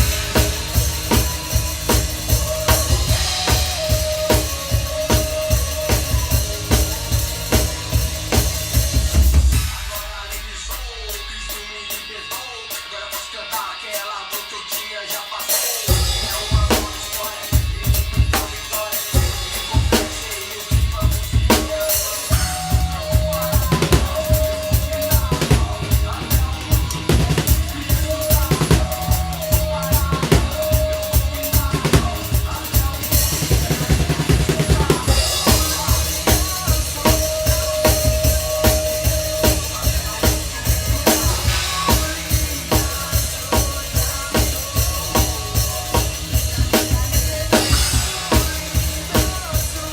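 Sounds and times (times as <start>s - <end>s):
backing music track: 0.0s - 49.9s
drum kit playing: 0.0s - 49.9s.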